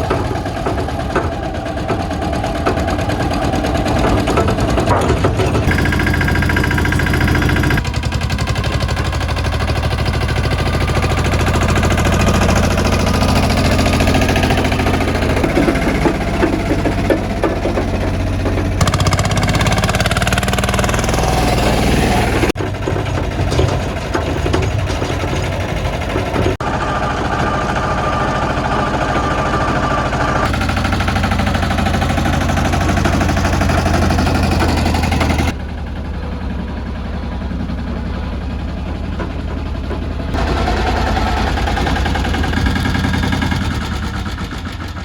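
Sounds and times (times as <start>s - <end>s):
small tractor engine knocking: 0.0s - 45.0s.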